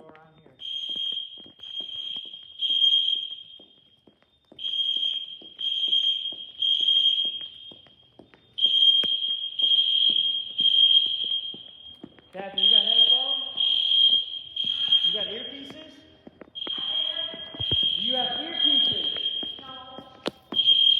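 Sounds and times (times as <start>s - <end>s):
fire alarm pulsing tone: 0.0s - 20.9s.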